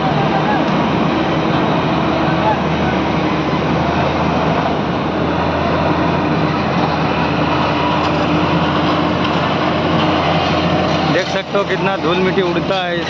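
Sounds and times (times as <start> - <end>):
truck diesel engines droning: 0.0 - 13.0.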